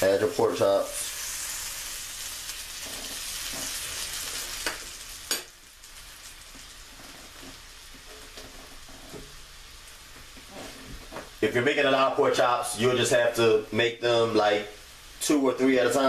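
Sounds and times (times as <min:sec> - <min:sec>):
meat sizzling in butter: 0:00.0 - 0:16.0.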